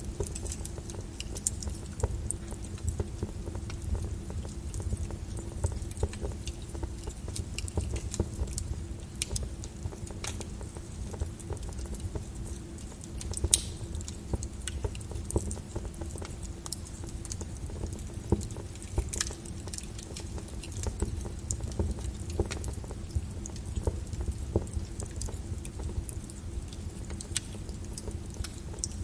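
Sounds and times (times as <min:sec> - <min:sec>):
rain: 0:00.0 - 0:29.0
wood fire crackling and popping: 0:00.0 - 0:29.0.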